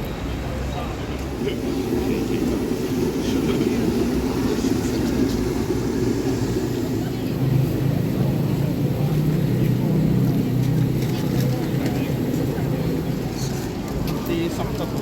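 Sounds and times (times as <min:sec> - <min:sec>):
street traffic rumble: 0:00.0 - 0:15.0
deep steady hum: 0:01.2 - 0:13.8.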